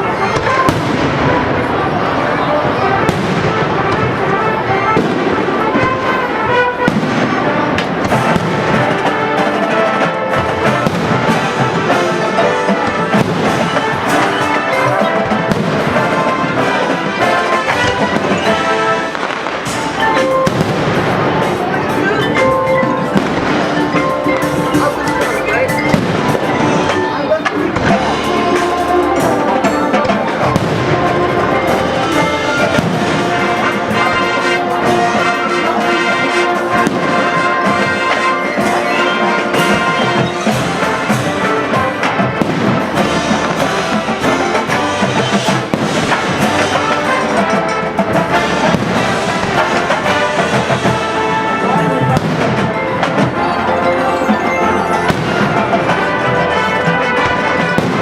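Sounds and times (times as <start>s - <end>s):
brass and percussion music: 0.0s - 58.0s
fireworks bangs and crackles: 0.0s - 58.0s.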